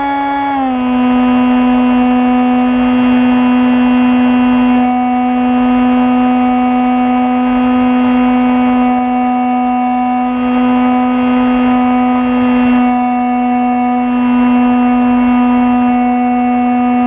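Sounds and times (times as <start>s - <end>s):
model plane propeller whining: 0.0s - 17.0s.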